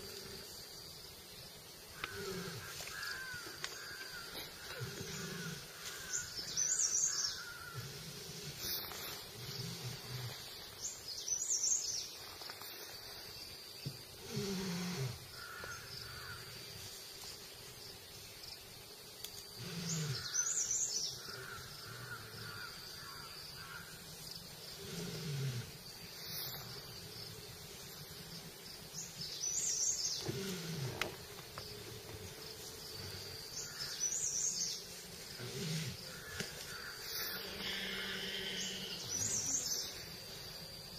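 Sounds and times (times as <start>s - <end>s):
birds calling: 0.0s - 40.6s
insects calling: 0.0s - 40.9s
tiger growling: 1.9s - 10.8s, 14.1s - 17.0s, 19.3s - 40.6s.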